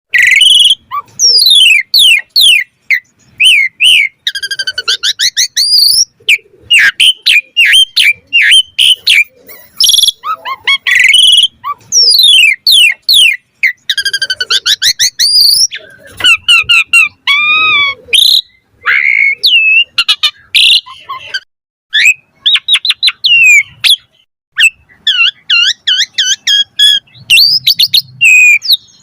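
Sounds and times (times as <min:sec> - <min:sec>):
starling singing varied song: 0:00.1 - 0:21.4, 0:22.0 - 0:29.0.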